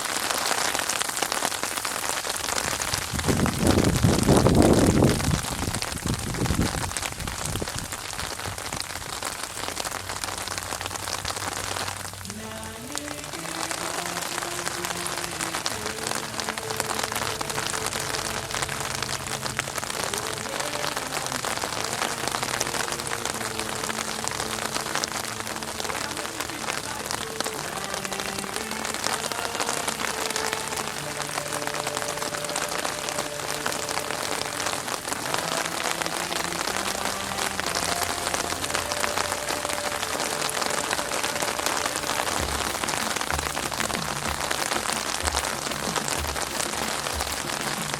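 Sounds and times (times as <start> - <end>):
heavy rain on a street: 0.0 - 47.9.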